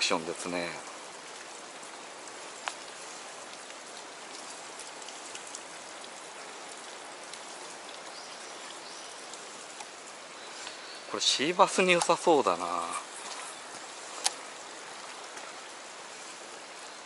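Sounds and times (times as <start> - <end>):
water hissing: 0.0 - 17.0.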